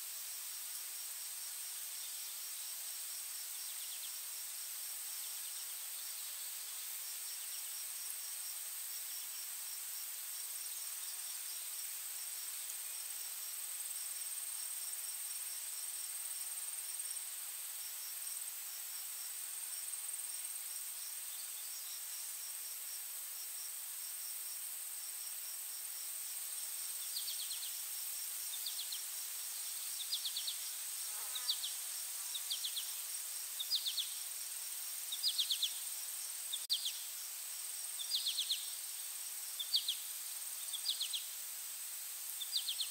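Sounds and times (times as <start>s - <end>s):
insects chirping chorus: 0.0s - 42.9s.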